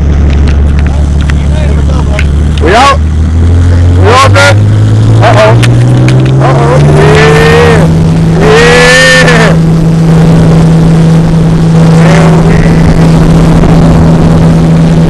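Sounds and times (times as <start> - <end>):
boat engine droning: 0.0 - 15.0
wind and water rushing: 0.0 - 15.0
rising and falling tone: 2.3 - 15.0.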